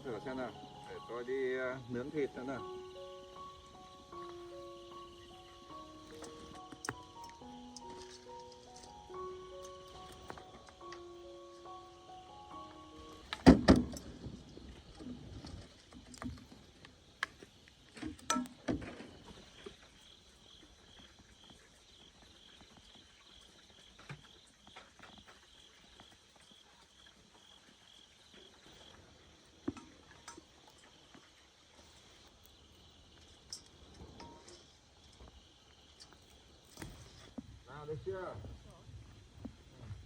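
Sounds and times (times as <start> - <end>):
faint high insect chirp: 0.0 - 40.0.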